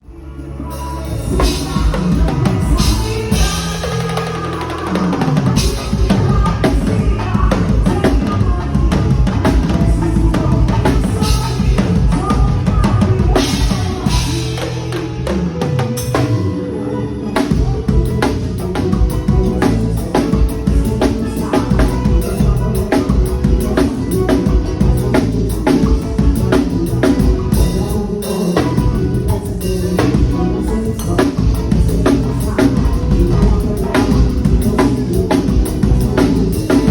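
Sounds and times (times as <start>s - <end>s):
bass line: 0.0s - 36.9s
live band playing: 0.0s - 36.9s.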